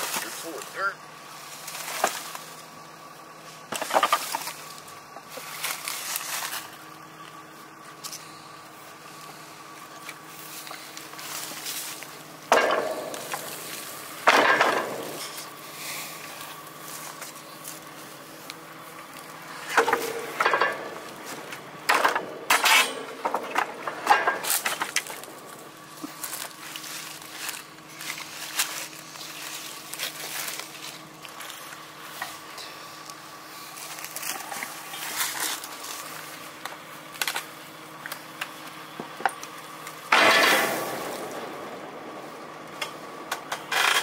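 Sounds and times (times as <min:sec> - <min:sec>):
low hum: 0:00.0 - 0:44.0.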